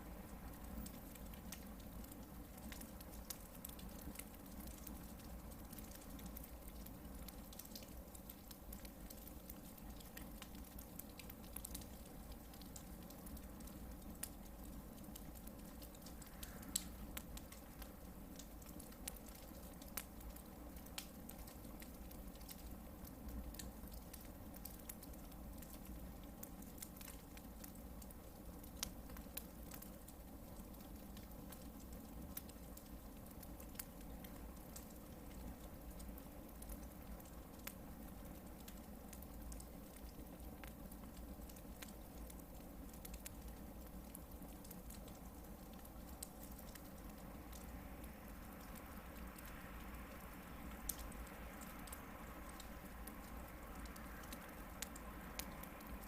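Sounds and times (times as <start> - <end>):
low fire rumble: 0.0 - 56.0
campfire crackling and popping: 0.2 - 56.0.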